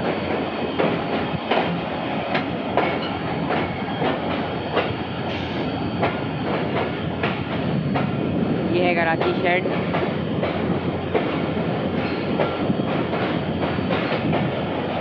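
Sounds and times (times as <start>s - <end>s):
train rumbling: 0.0s - 15.0s
train wheels clicking over rails: 0.0s - 15.0s.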